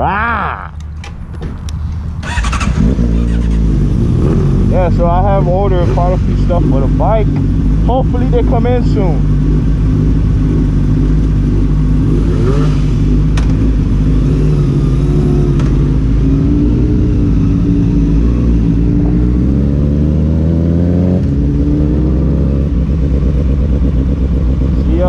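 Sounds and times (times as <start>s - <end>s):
motorcycle engine accelerating: 0.8s - 25.0s.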